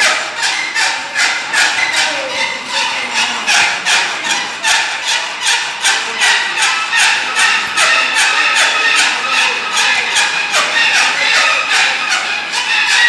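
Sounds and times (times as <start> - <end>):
hand file rasping on metal: 0.0 - 13.0.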